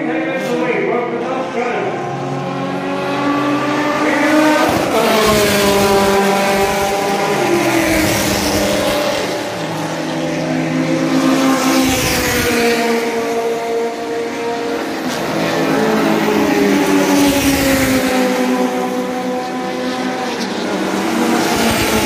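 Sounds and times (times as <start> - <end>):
race car engines passing by: 0.0 - 22.0.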